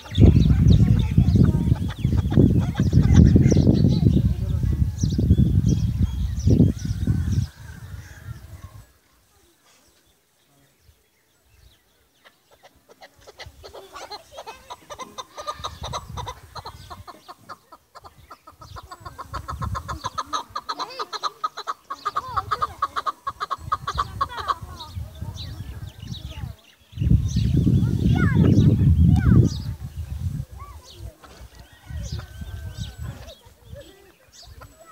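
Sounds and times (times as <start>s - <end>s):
partridge calling: 0.0s - 7.6s, 11.6s - 34.9s.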